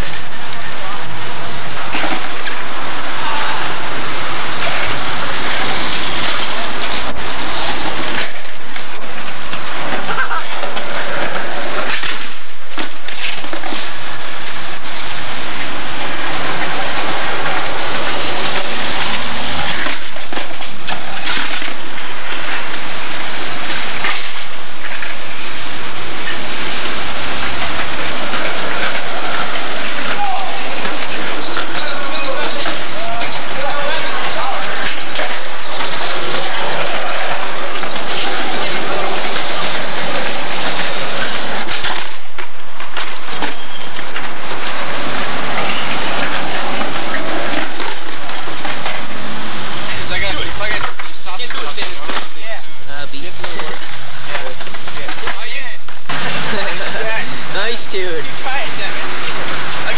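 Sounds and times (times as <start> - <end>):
loud rushing noise: 0.0 - 59.9.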